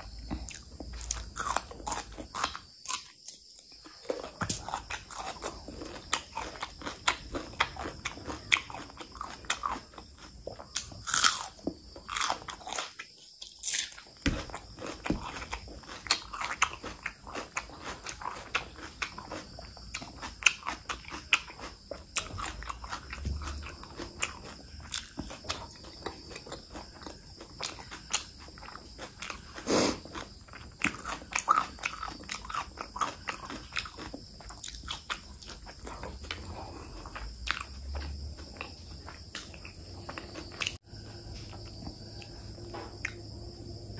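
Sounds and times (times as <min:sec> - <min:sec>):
chewing and crunching: 0:00.0 - 0:43.9.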